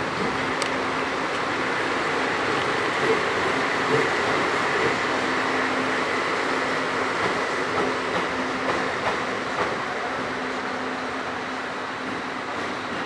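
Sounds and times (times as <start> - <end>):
rumble of rolling train wagons: 0.0 - 13.0.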